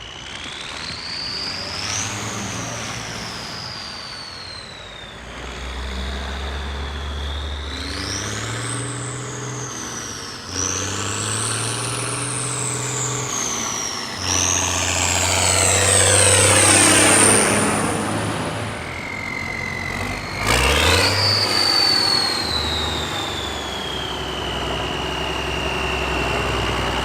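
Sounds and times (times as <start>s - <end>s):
diesel tractor engine revving: 0.0s - 27.0s
turbo whistle: 0.0s - 27.0s.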